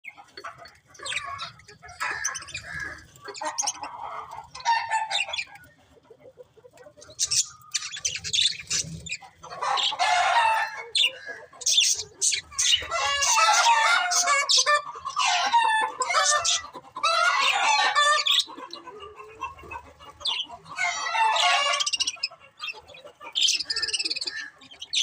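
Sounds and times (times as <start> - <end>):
budgerigars chirping: 0.1 - 5.7, 7.0 - 25.0.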